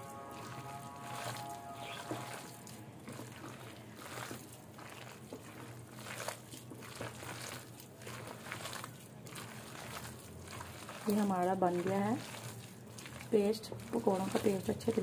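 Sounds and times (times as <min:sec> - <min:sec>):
hand squelching wet batter: 0:00.0 - 0:15.0.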